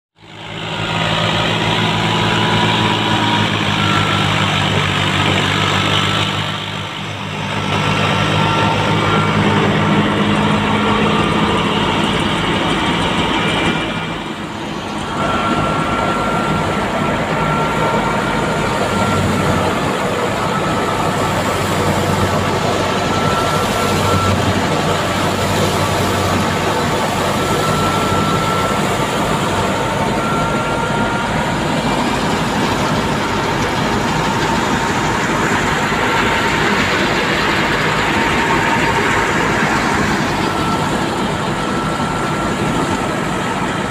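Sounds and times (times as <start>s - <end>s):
tractor diesel engine: 0.1s - 43.9s
thresher running: 0.2s - 43.9s
high whine: 0.3s - 43.9s.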